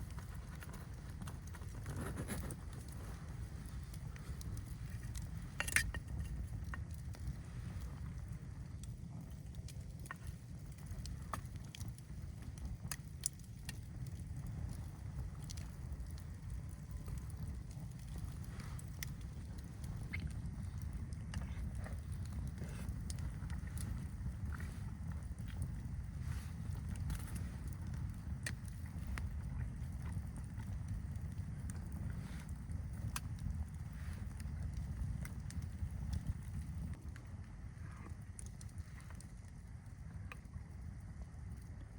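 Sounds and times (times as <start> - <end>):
campfire crackling: 0.0 - 41.9
low wind rumble: 0.0 - 41.9.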